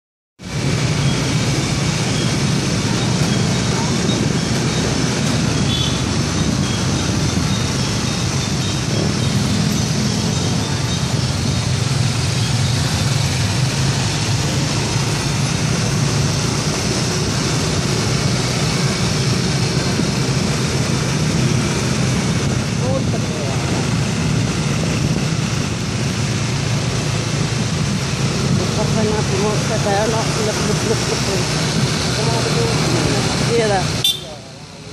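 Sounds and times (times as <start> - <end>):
road noise: 0.4 - 34.9
scooter engines droning: 0.4 - 34.9.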